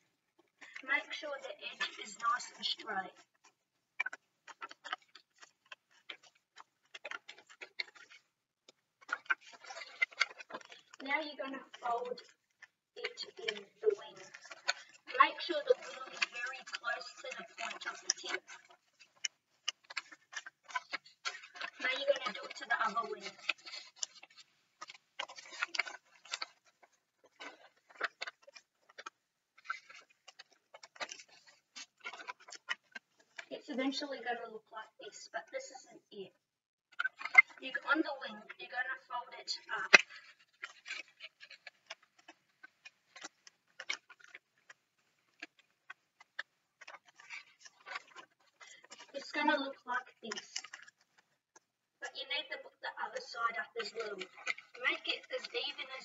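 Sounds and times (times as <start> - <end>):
paper crackling and rustling: 0.1 - 34.4, 37.0 - 56.0.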